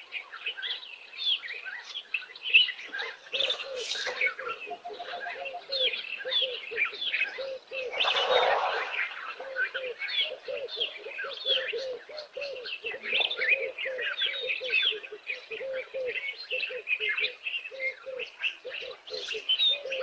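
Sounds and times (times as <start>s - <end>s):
birds chirping and whistling: 0.6s - 20.0s.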